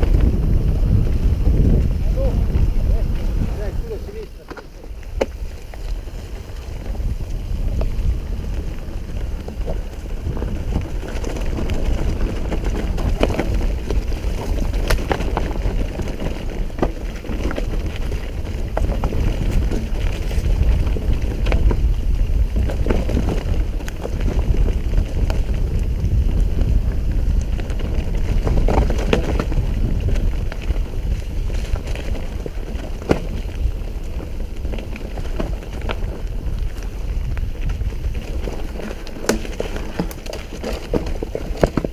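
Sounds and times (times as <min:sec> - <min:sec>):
bike knocking and rattling: 0:00.0 - 0:41.9
bike tyres rumbling over ground: 0:00.0 - 0:41.9
wind on microphone: 0:00.0 - 0:41.9.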